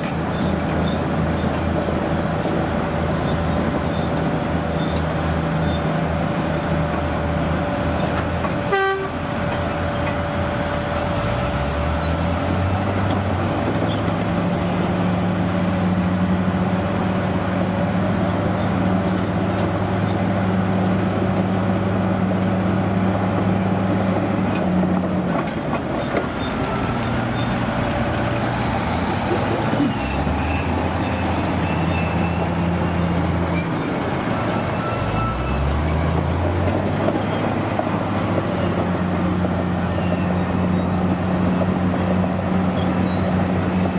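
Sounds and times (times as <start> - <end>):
heavy engine running: 0.0 - 43.9.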